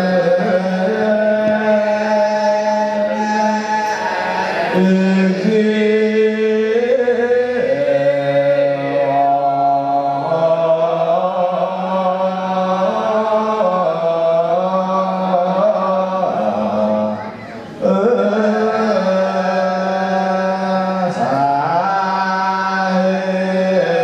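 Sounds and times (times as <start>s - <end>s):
voices chanting long notes: 0.0s - 24.0s.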